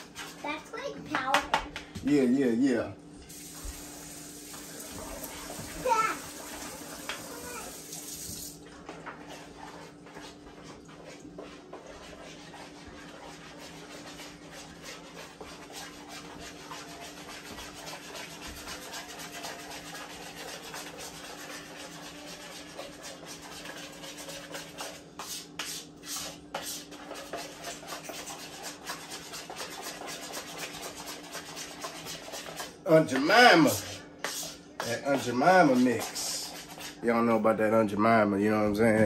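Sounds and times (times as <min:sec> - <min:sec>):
kitchenware scraping and rubbing: 0:03.3 - 0:37.5.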